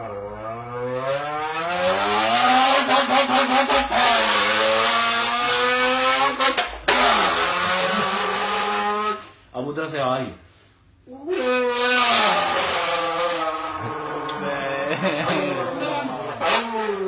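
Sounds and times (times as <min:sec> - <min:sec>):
man imitating race car engine: 0:00.0 - 0:09.2, 0:11.4 - 0:17.0.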